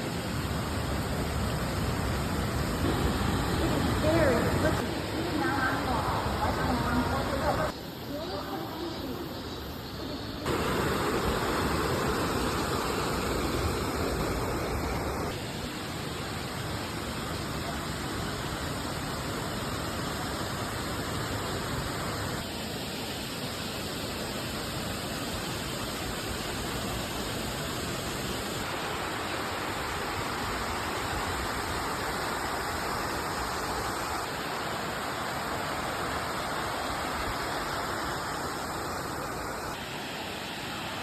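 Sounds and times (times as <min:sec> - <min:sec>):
waterfall roaring: 0:00.0 - 0:41.0.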